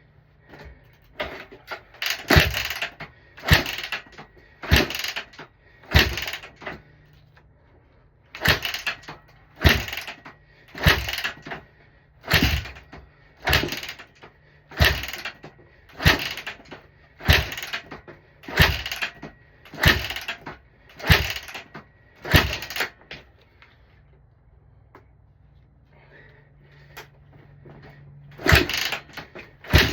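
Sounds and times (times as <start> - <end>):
motorcycle being kick-started: 0.4 - 7.3, 8.3 - 23.3, 26.8 - 29.9.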